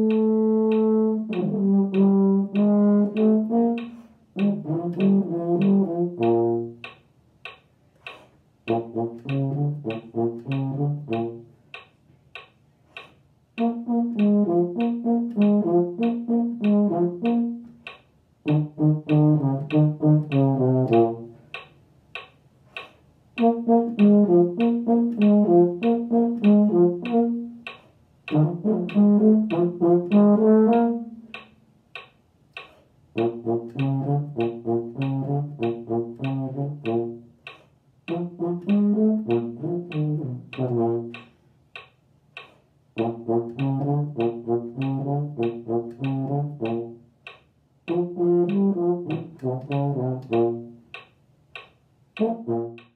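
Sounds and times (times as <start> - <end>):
metronome click: 0.0 - 52.9.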